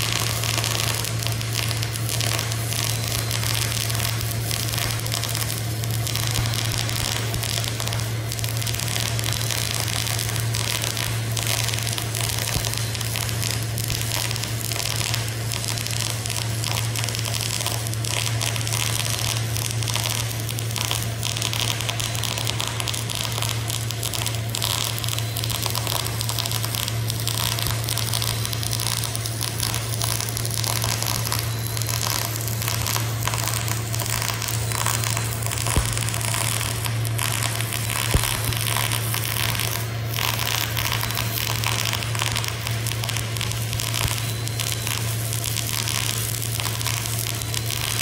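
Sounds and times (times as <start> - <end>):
constant low hum: 0.0 - 48.0
welding arc crackling sizzle: 0.0 - 48.0.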